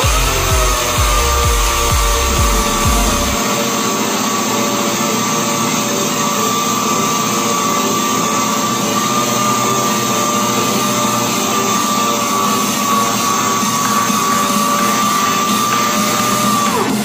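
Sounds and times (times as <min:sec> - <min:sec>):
orbital sander whining: 0:00.0 - 0:17.0.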